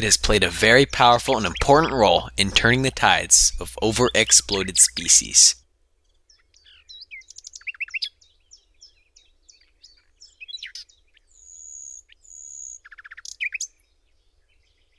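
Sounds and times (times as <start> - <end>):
birds singing and calling: 0.0 - 14.9.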